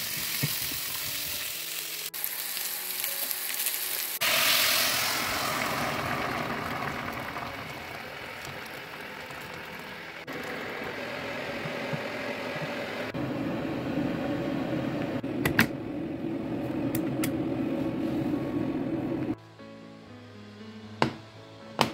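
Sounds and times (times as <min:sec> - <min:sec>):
pots hissing on a stove: 0:00.0 - 0:19.4
stew simmering: 0:00.0 - 0:19.4.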